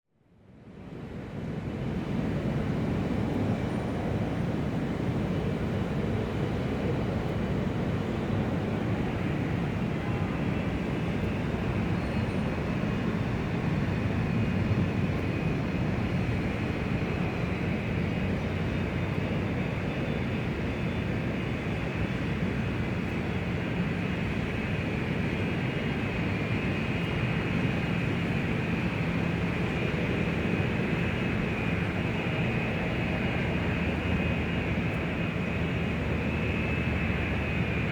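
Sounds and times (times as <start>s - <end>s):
jet engines humming and rumbling: 0.4s - 37.9s.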